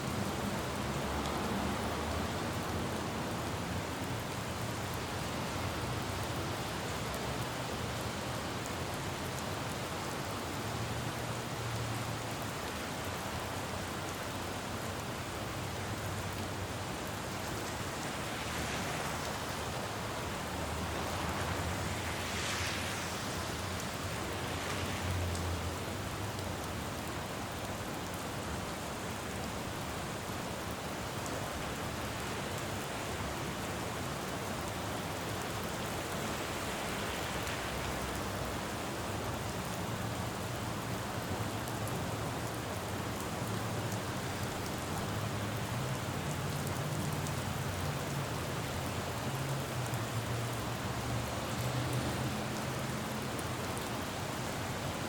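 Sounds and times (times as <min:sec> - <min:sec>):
rain falling on road: 0:00.0 - 0:55.0.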